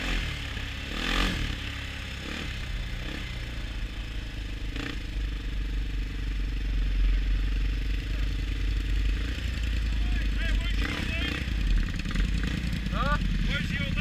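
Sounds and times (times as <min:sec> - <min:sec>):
atv engines rumbling: 0:00.0 - 0:14.0.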